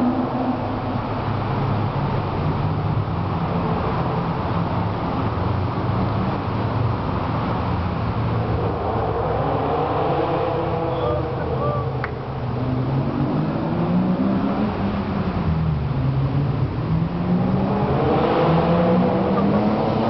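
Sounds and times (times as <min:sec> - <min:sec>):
traffic rumbling in a tunnel: 0:00.0 - 0:20.0.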